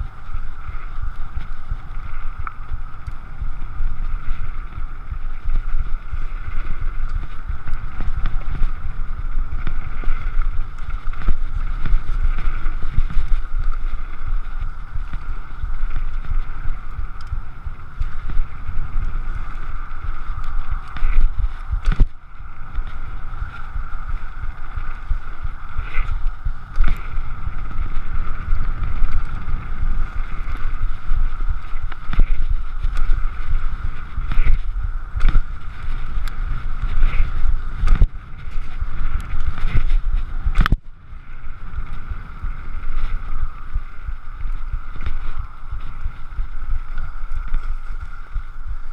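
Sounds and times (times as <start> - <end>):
bike tyres rumbling on gravel: 0.0 - 48.9
wind buffeting microphone: 0.0 - 48.9.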